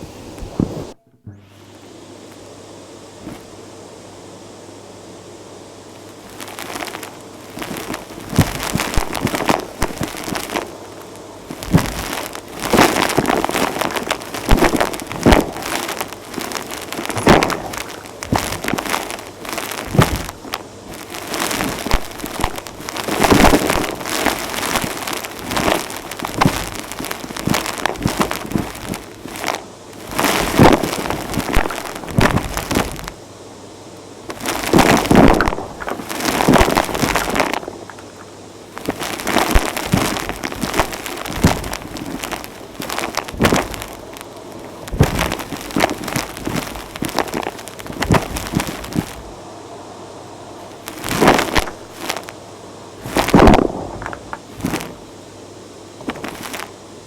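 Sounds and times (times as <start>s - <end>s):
grit crackling up vacuum hose: 0.0s - 1.0s, 1.7s - 3.7s, 5.8s - 33.2s, 34.0s - 49.4s, 50.6s - 52.4s, 53.0s - 55.3s, 55.9s - 56.9s.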